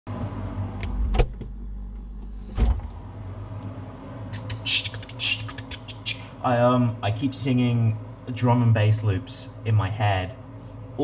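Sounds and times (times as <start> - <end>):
fridge low hum: 0.1 - 11.0.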